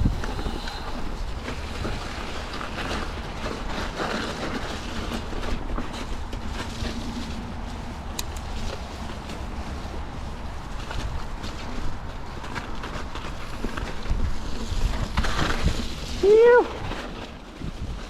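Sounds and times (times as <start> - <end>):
bike rattling over bumps: 0.0 - 18.0
wind buffeting microphone: 0.0 - 18.0.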